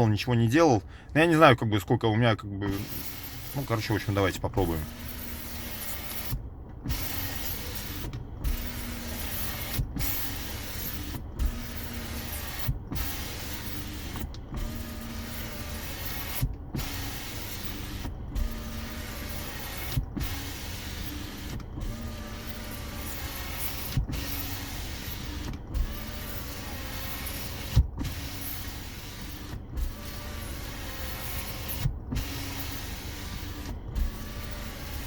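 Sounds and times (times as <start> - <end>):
power window motor running: 2.4 - 35.0
window glass grinding and creaking: 2.6 - 35.0.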